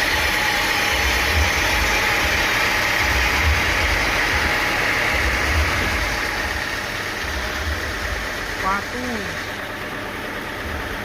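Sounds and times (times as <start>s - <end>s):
sawmill engine throbbing: 0.0s - 11.0s.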